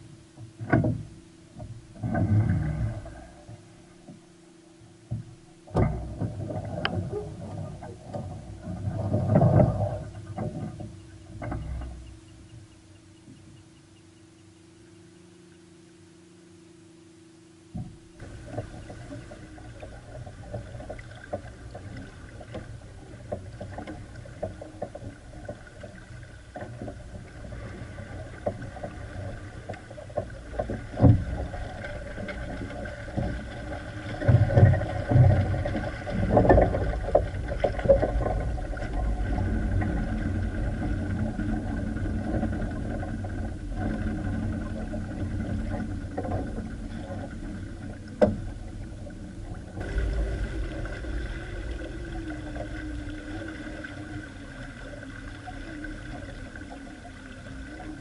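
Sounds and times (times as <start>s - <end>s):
steady rumble: 0.0s - 58.0s
water splashing along hull: 0.0s - 58.0s.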